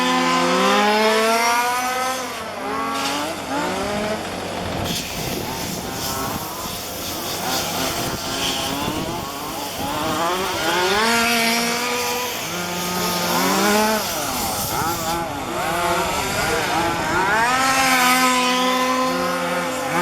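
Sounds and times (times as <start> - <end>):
small two-stroke engines revving: 0.0 - 20.0.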